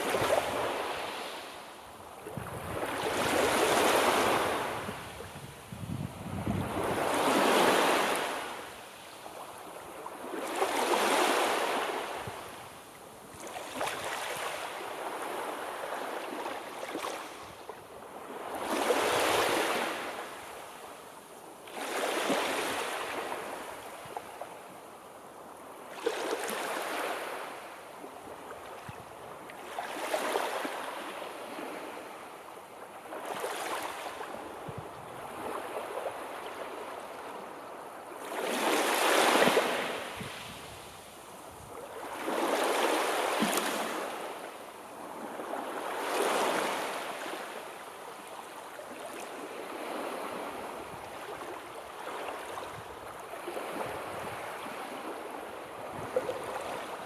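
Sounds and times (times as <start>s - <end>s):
sea waves breaking on shore: 0.0s - 20.9s, 21.6s - 24.6s, 25.8s - 57.0s.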